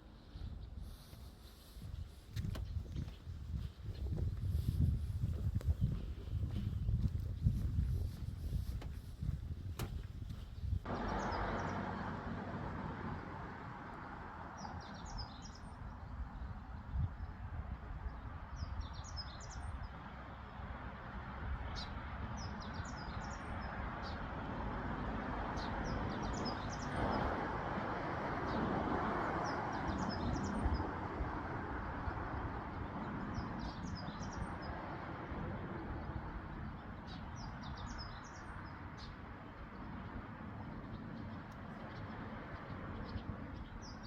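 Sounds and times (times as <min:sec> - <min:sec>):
songbird singing: 0:00.0 - 0:20.9, 0:21.6 - 0:27.5, 0:28.3 - 0:44.0.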